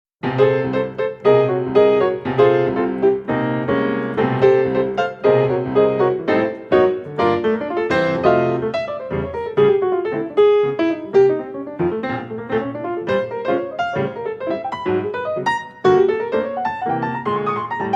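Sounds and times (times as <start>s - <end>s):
piano music: 0.2s - 17.9s.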